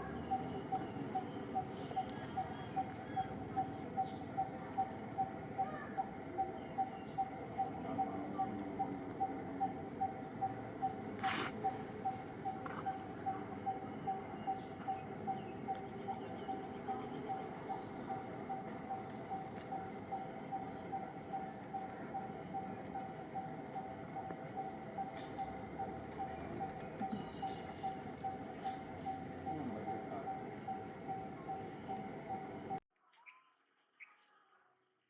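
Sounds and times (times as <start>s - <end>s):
high-pitched insect drone: 0.0s - 32.8s
low repeated insect note: 0.0s - 32.8s.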